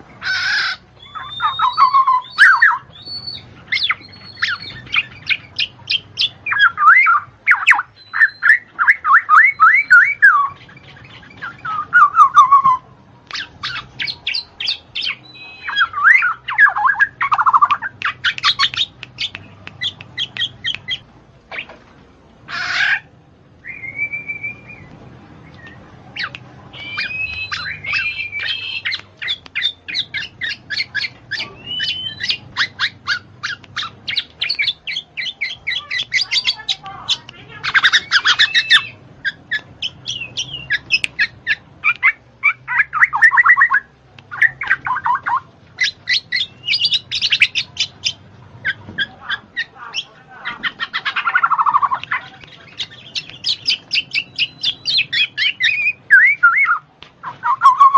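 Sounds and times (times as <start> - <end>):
songbird singing: 0.0 - 21.8, 22.4 - 57.9.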